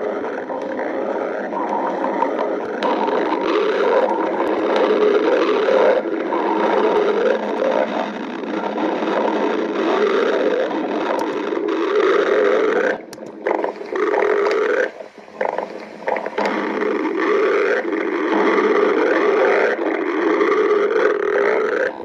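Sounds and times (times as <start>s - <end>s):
stomach growling: 0.0s - 22.0s.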